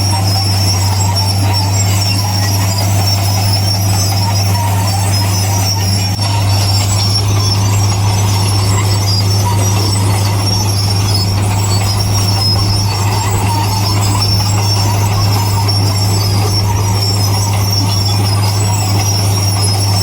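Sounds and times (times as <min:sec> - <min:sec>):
bulldozer diesel engine: 0:00.0 - 0:20.0
steel tracks squealing: 0:00.0 - 0:20.0.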